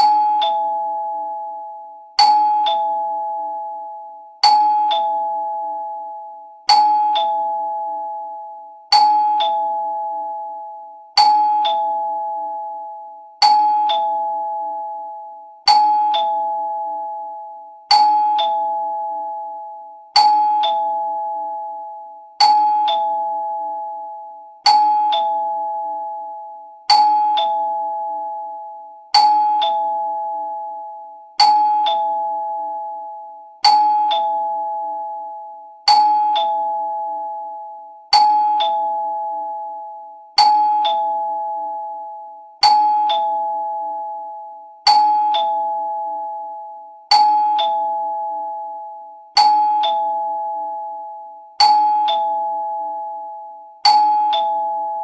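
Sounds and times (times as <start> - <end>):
two-note doorbell chime: 0.0 - 55.0.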